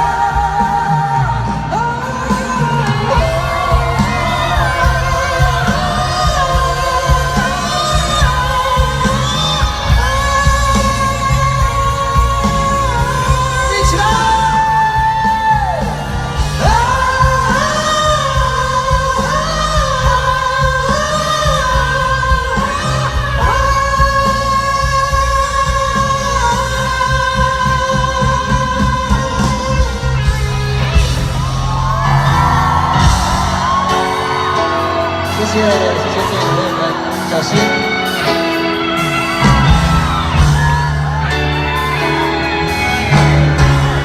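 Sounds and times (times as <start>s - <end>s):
long-held wordless vocals: 0.0s - 40.5s
live pop-rock band: 0.0s - 44.0s.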